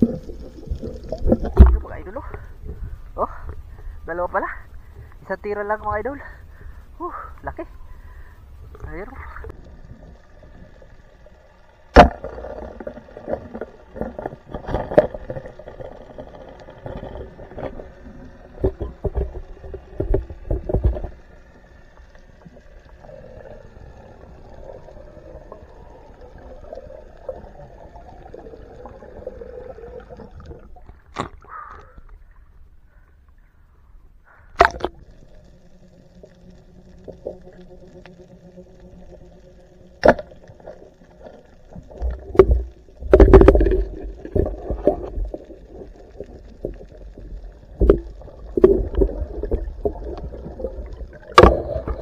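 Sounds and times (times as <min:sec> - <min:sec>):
faint underwater hum: 0:00.0 - 0:52.0
water movement: 0:00.0 - 0:52.0.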